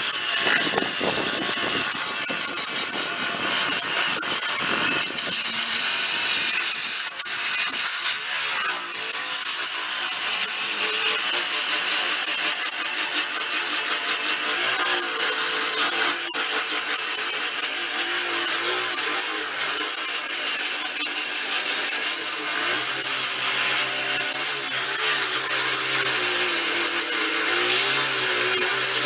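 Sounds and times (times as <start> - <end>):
sanding disc scraping metal: 0.0 - 29.0.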